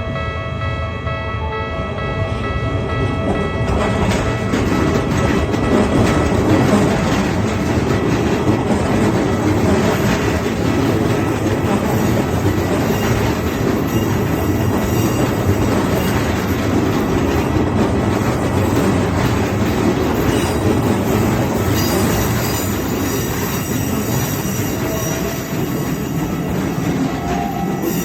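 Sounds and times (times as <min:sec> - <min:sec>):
train wheels rumbling on rails: 0:01.8 - 0:28.0.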